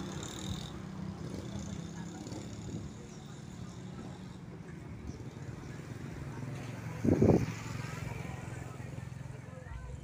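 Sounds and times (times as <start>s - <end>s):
distant motorbike traffic: 0.0s - 10.0s
low engine-like hum: 0.0s - 10.0s.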